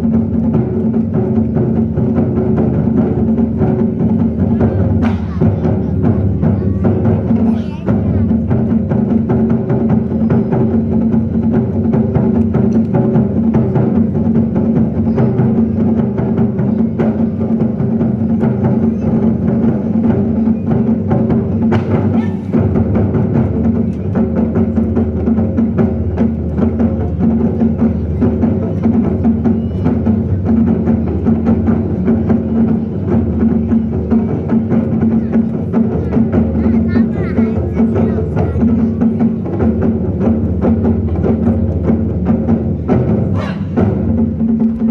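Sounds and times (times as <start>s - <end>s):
large drums rolling: 0.0s - 44.9s.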